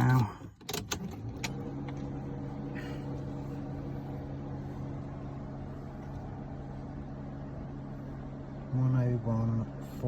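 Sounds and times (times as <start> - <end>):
steady electric hum: 1.0 - 10.0.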